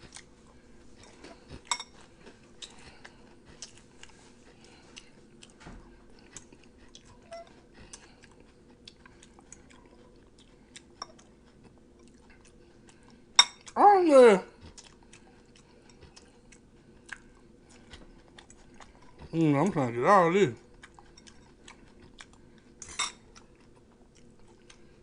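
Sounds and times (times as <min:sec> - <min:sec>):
person chewing food: 0:00.0 - 0:13.8, 0:14.5 - 0:25.0.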